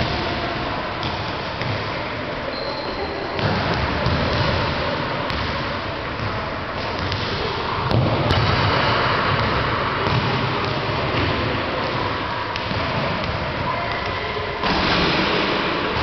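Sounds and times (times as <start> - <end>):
footballs bouncing on hall floor: 0.0 - 2.1, 3.3 - 16.0
echoing hall din: 0.0 - 2.4, 3.3 - 16.0.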